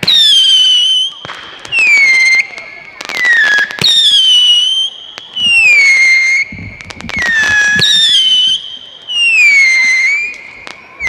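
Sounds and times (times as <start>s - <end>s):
firework cracks and pops: 0.0s - 11.0s
whistling fireworks: 0.0s - 11.0s.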